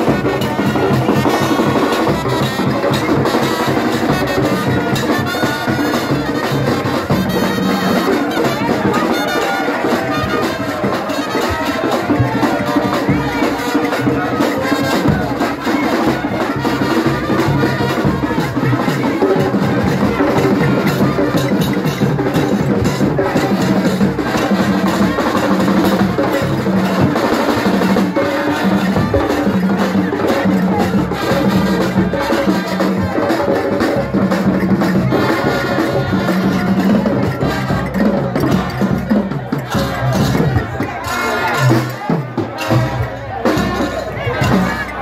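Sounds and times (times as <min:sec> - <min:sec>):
horn riff: 0:00.0 - 0:41.8
drums and percussion groove: 0:00.0 - 0:45.0
highlife band playing: 0:00.0 - 0:45.0.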